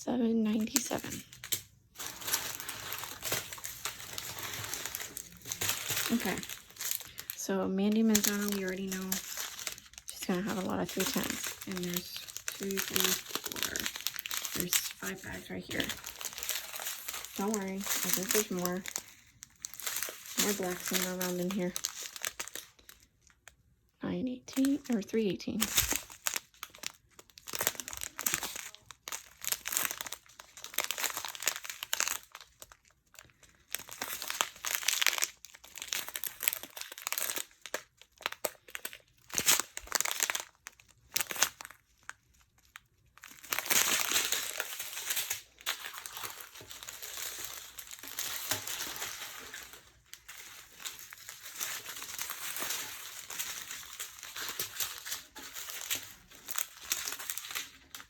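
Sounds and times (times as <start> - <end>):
plastic bags crinkling: 0.3 - 23.7, 24.4 - 58.0.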